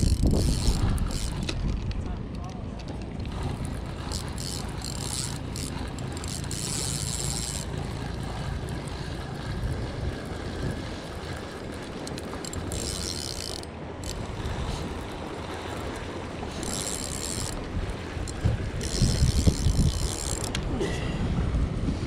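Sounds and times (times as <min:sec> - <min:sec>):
fishing reel gears cranking: 0:00.0 - 0:01.8, 0:03.2 - 0:09.1, 0:10.6 - 0:20.6.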